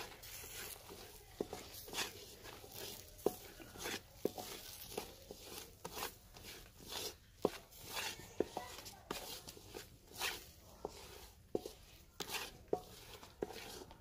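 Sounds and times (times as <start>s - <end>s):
spatula scraping thick mixture: 0.0s - 14.0s.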